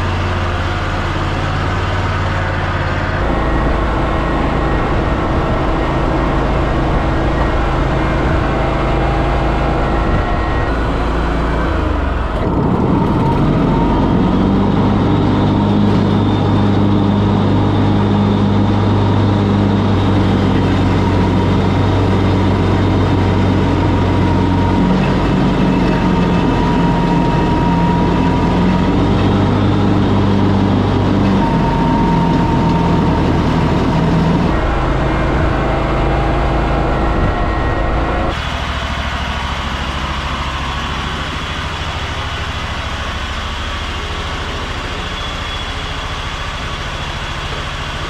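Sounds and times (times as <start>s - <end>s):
mower engine running: 0.0s - 48.0s.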